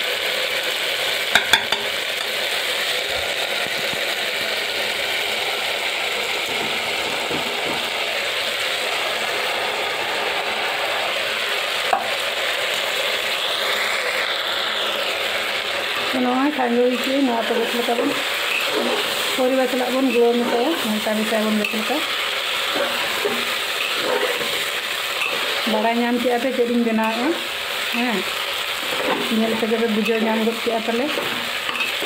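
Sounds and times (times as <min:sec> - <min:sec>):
vegetables sizzling in oil: 0:00.0 - 0:32.0.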